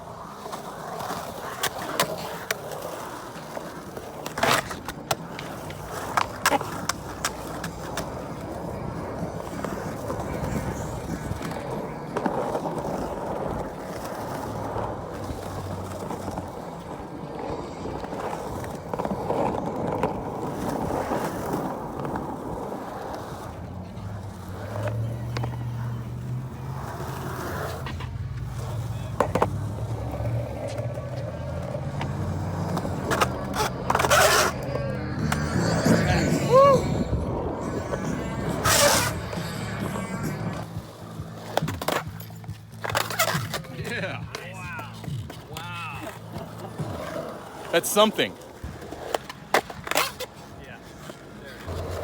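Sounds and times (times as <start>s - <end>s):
skateboard clacking: 0.0s - 52.0s
skateboard wheels rolling: 0.0s - 52.0s.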